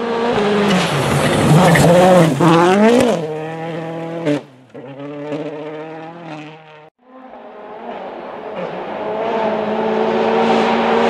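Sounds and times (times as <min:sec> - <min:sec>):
rally car engine pulling away: 0:00.0 - 0:11.0.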